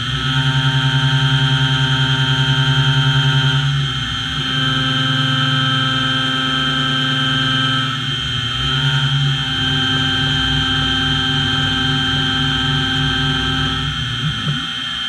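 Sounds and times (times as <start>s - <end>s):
low pulsing chatter vibration: 0.0s - 15.0s
milling spindle whining: 0.0s - 15.0s.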